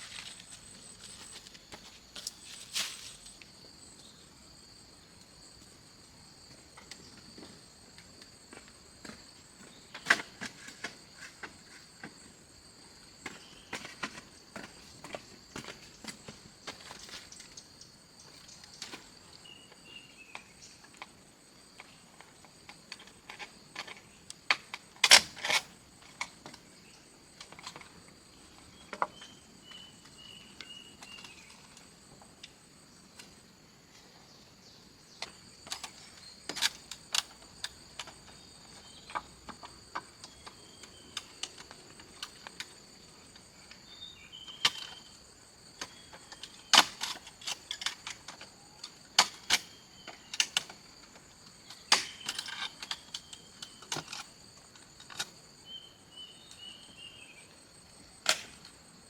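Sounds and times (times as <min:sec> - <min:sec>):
insect chirping calls: 0:00.0 - 0:59.0.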